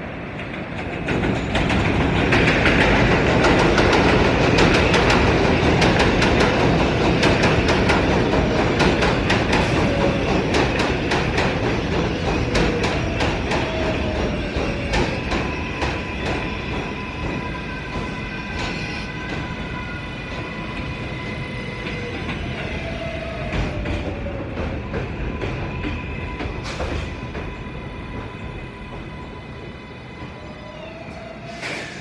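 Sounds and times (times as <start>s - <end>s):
train wheels rumbling and clicking: 0.0s - 32.0s.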